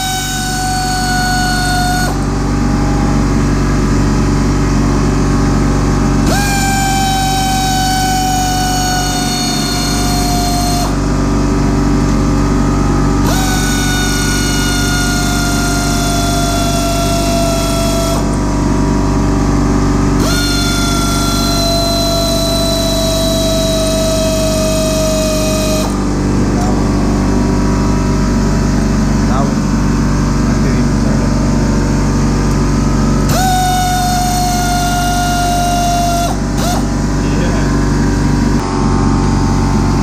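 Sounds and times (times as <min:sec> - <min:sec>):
electric power tool whining: 0:00.0 - 0:40.0
steady low hum: 0:00.0 - 0:40.0.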